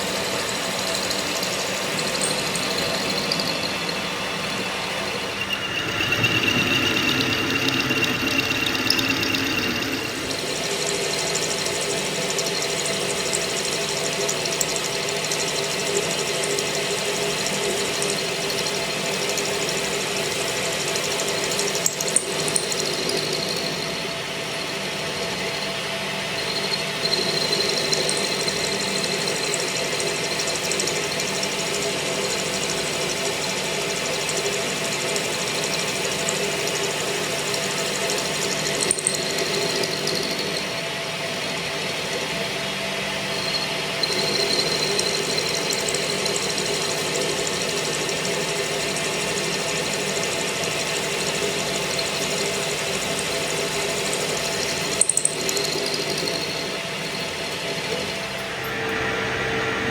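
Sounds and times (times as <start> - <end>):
workshop machine running: 0.0 - 59.9.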